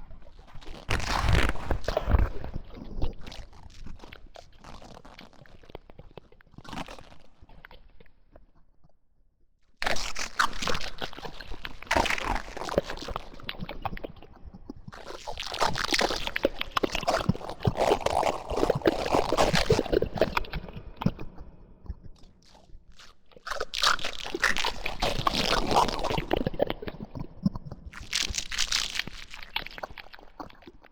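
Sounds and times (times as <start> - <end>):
wet crunching and chewing: 0.2 - 8.0, 9.8 - 30.9.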